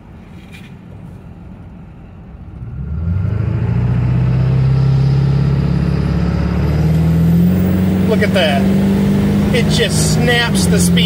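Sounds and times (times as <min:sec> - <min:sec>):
diesel truck engine accelerating: 0:00.8 - 0:11.0.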